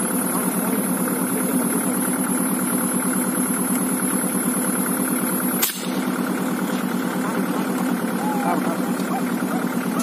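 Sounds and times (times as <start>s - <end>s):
tractor engine chugging: 0.0s - 10.0s.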